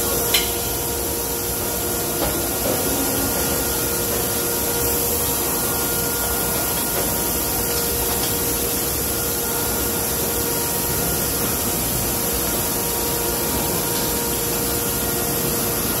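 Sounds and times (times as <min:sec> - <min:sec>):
factory machinery humming: 0:00.0 - 0:16.0.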